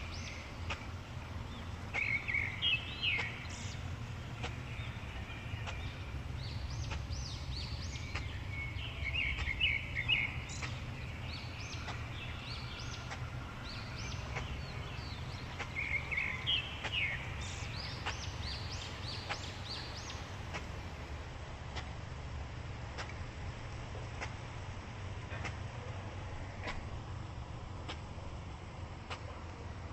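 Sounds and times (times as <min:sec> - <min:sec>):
faint clicks: 0:00.0 - 0:22.0, 0:22.9 - 0:24.7, 0:27.8 - 0:29.7
birds chirping: 0:00.0 - 0:29.9
steady low rumble: 0:00.0 - 0:29.9.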